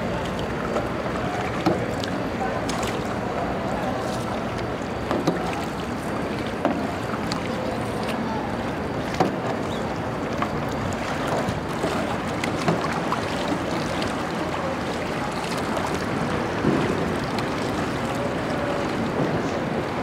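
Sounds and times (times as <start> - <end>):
lapping water: 0.0 - 20.0
paddle splashing water: 0.0 - 20.0
wind: 0.0 - 20.0.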